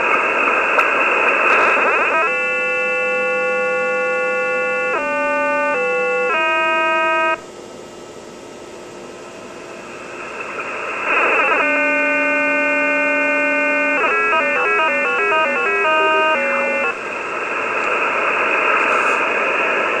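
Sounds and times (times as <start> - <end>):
radio static hiss: 0.0 - 20.0
buzzy radio tone hopping pitches: 0.3 - 8.1, 9.1 - 20.0.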